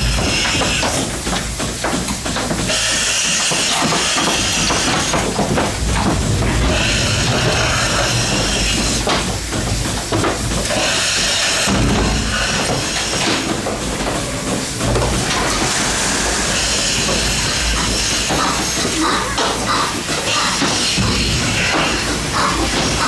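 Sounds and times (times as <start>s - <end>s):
milking machine hissing and rattling: 0.0s - 23.0s.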